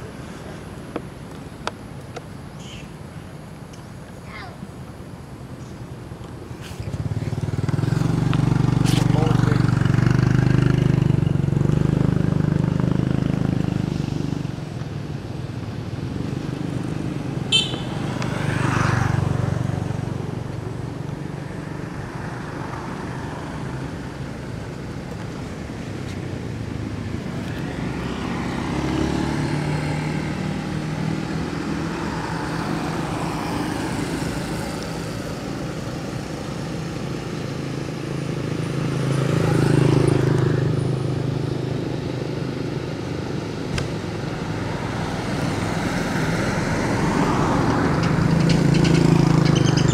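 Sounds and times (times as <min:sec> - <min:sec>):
vehicles passing by: 0:00.0 - 0:49.9.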